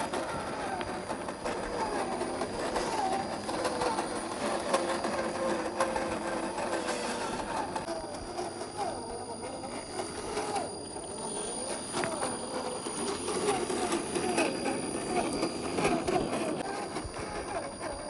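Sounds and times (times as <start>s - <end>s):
electric motor and gears whining: 0.0s - 18.0s.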